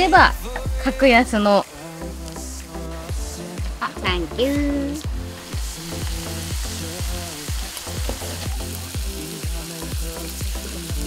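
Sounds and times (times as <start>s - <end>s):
music with kick-drum beat: 0.0s - 11.0s
food sizzling in a hot pan: 1.0s - 11.0s.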